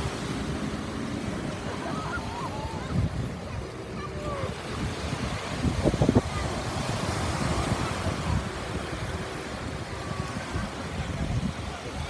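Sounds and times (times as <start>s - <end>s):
small waves washing on shore: 0.0s - 12.0s
wind on microphone: 0.0s - 12.0s.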